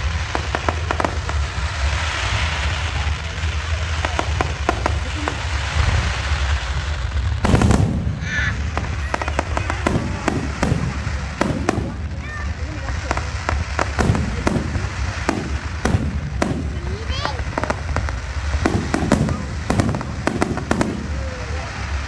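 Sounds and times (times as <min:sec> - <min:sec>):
firework bang echoing: 0:00.0 - 0:22.0
fireworks crackling pops: 0:00.0 - 0:22.0.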